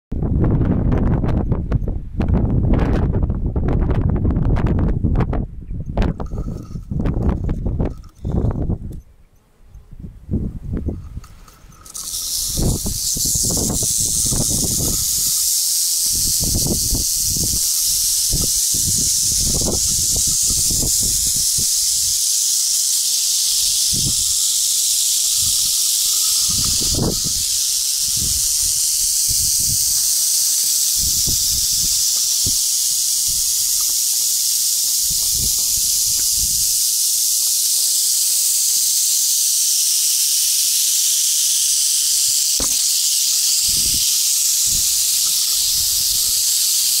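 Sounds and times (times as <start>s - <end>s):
rattlesnakes rattling: 6.0s - 9.0s, 10.8s - 47.0s.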